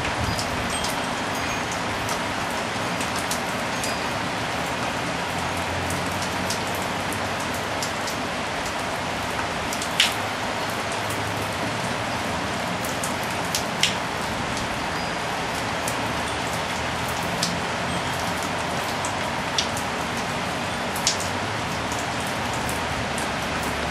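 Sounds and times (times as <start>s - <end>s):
rain shower: 0.0s - 23.9s.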